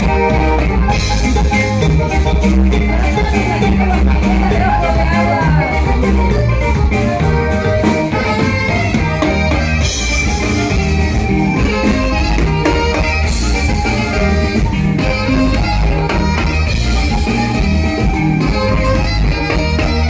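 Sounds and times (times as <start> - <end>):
alto saxophone: 0.0 - 20.0
button accordion: 0.0 - 20.0
guitars playing: 0.0 - 20.0
steady bass: 0.0 - 20.0.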